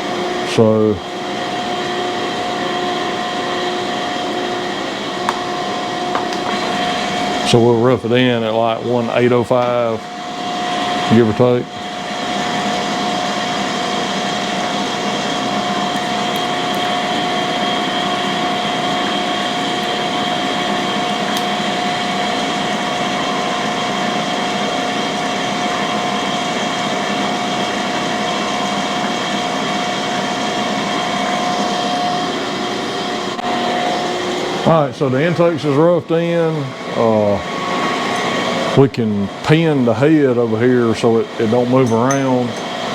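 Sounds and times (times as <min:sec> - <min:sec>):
grinding machine hiss and whine: 0:00.0 - 0:42.9.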